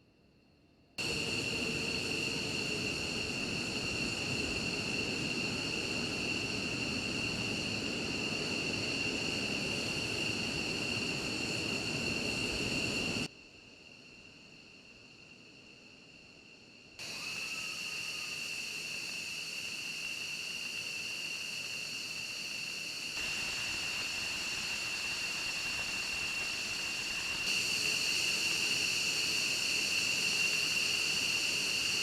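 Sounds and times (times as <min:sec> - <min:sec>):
jet engine roaring with whine: 0:01.0 - 0:13.3, 0:17.0 - 0:32.0.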